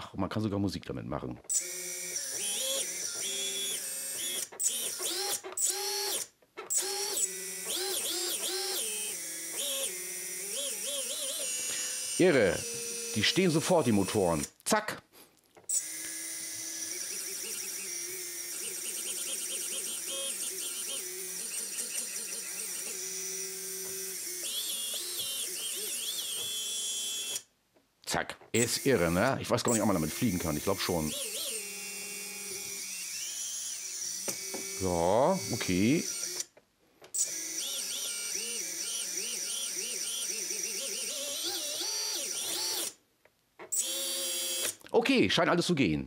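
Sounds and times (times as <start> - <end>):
small electric motors whining: 1.5 - 14.5, 15.7 - 27.5, 28.6 - 36.5, 37.1 - 43.0, 43.7 - 44.8.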